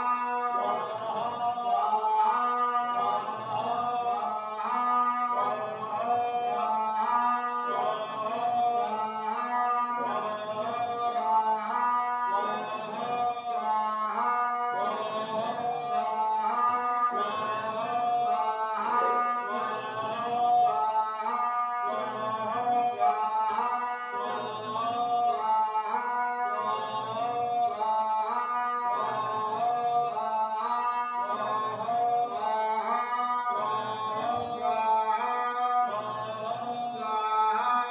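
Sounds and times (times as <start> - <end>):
man singing devotional song: 0.0 - 37.9.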